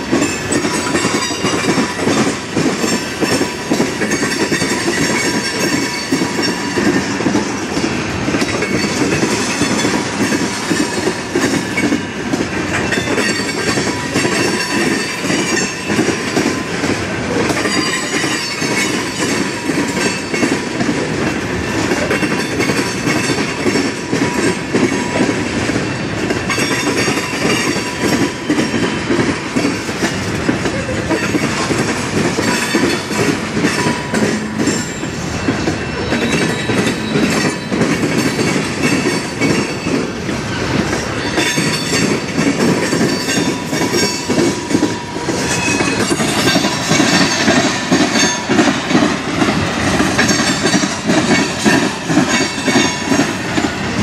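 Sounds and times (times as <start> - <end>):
train wheels clattering over rail joints: 0.0 - 54.0.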